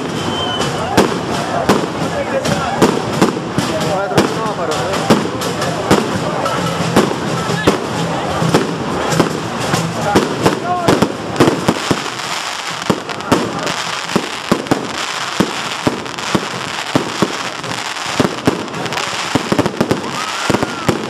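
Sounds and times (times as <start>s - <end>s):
fireworks bursting: 0.0s - 21.0s
fireworks crackling: 0.0s - 21.0s.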